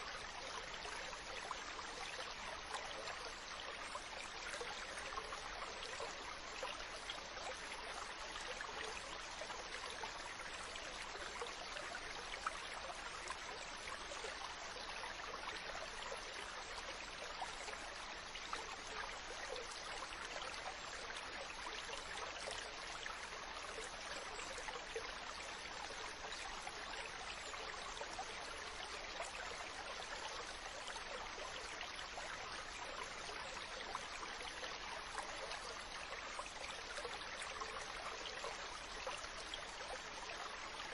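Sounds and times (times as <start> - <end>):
stream trickling over stones: 0.0 - 40.9.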